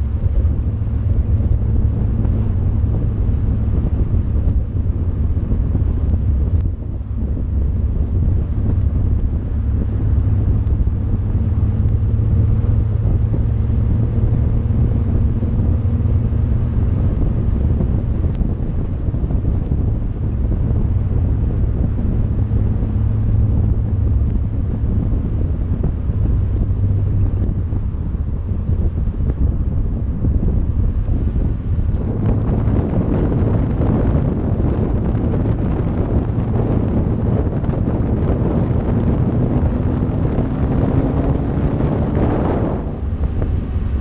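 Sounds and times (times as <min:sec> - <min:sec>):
car engine droning: 0:00.0 - 0:44.0
wind buffeting microphone: 0:00.0 - 0:44.0.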